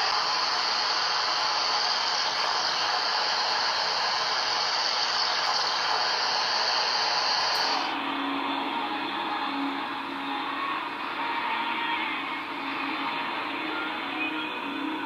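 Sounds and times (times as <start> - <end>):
shortwave radio static hiss: 0.0 - 15.0.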